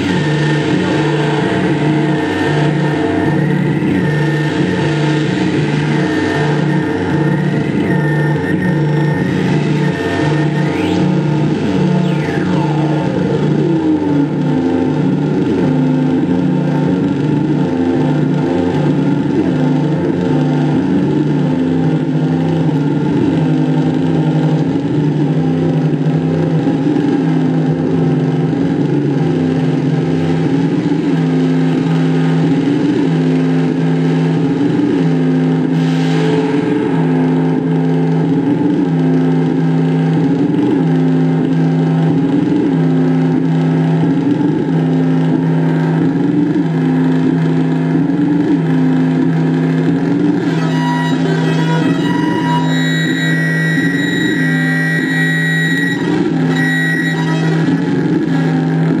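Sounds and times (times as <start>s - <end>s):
pulsing low electronic drone: 0.0s - 59.0s.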